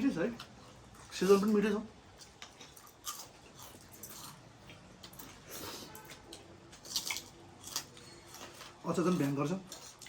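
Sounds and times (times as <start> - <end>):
person chewing noodles: 0.4 - 10.0.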